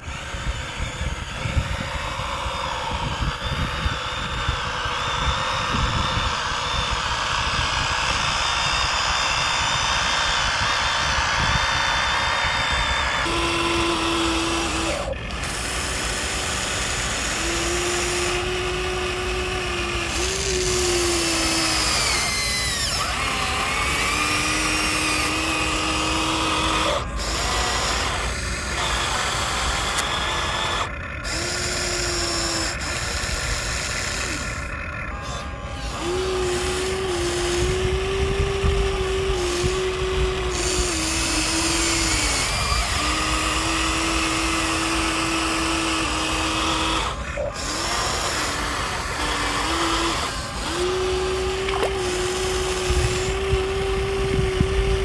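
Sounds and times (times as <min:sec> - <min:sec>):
steady mechanical hum: 0:00.0 - 0:55.0
toy electric motors whining: 0:00.0 - 0:55.0.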